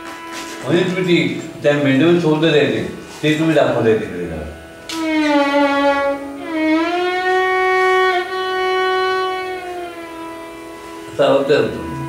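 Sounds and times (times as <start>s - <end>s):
violin gliding phrase: 0.0s - 12.0s.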